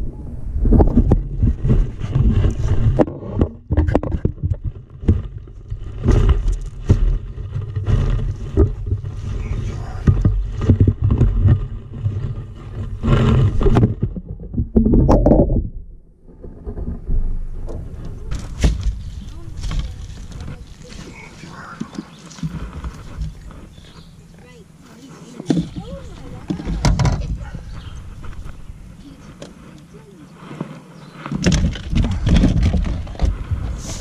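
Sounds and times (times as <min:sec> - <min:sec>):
steady low rumble: 0:00.0 - 0:30.2
knocks and scrapes on a boat: 0:00.7 - 0:15.7, 0:16.4 - 0:34.0.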